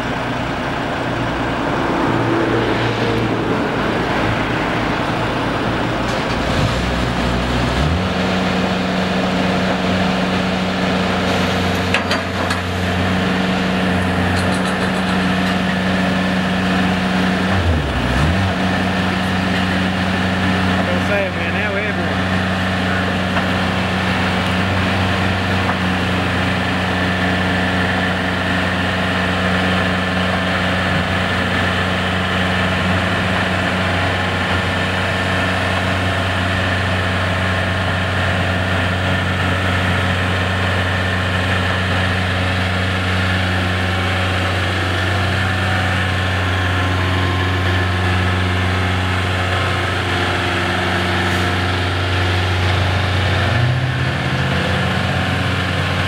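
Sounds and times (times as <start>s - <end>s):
heavy diesel truck engine running: 0.0s - 56.0s.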